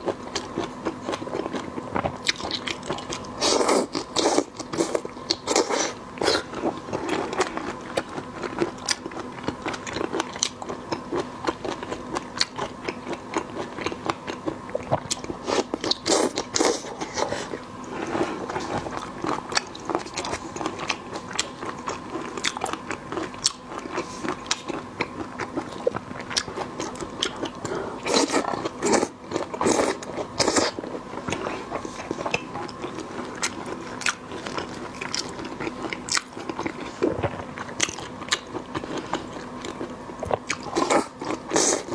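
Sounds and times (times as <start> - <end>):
chewing and crunching: 0.0 - 41.9
faint steady hum: 0.0 - 41.9.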